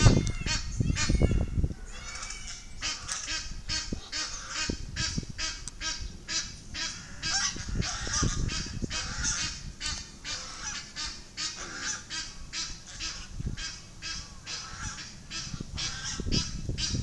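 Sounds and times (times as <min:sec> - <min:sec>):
geese honking harshly: 0:00.0 - 0:17.0.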